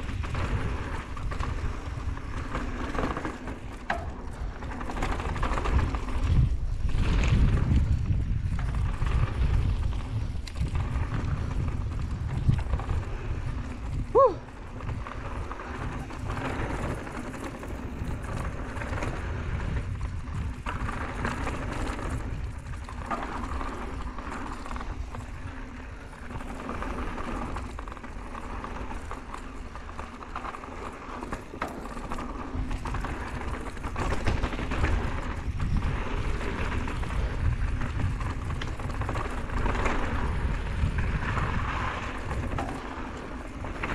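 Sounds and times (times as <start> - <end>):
bike rattling over bumps: 0.0 - 43.9
bike tyres crunching on dirt: 0.0 - 43.9
low wind rumble on microphone: 0.0 - 43.9.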